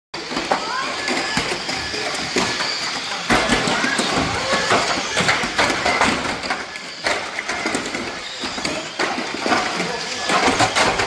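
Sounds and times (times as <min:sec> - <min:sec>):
faint voices: 0:00.2 - 0:11.0
plastic cars knocking and clattering: 0:00.2 - 0:11.0
toy car motor whine: 0:00.2 - 0:11.0.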